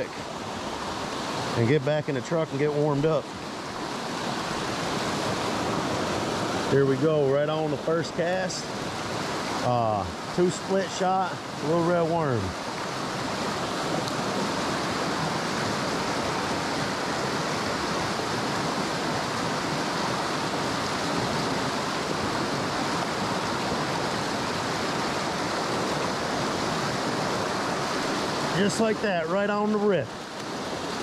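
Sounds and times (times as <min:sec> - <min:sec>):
creek water rushing over rocks: 0:00.0 - 0:31.0.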